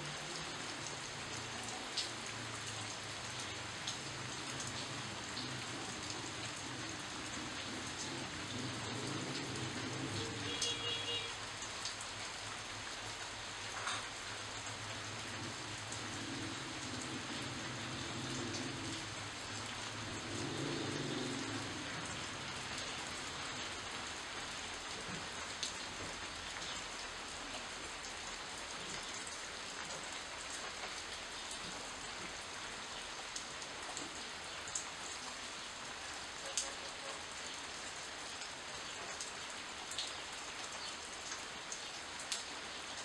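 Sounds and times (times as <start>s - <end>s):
rain falling on leaves: 0.0s - 43.0s.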